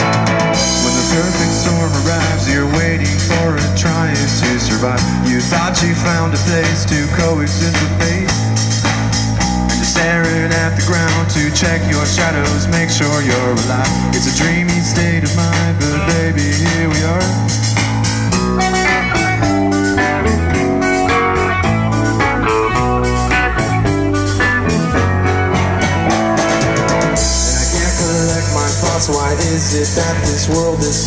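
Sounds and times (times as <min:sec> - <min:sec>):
bass line: 0:00.0 - 0:31.0
drum kit: 0:00.0 - 0:31.0
electric guitars: 0:00.0 - 0:31.0.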